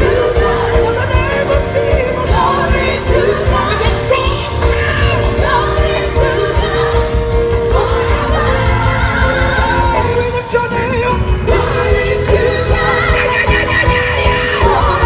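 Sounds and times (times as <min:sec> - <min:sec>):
gospel band playing: 0:00.0 - 0:15.0
people singing: 0:00.0 - 0:15.0.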